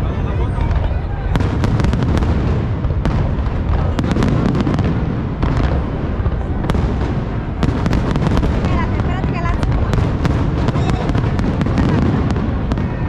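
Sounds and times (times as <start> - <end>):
fireworks cracks and pops: 0.5 - 13.0.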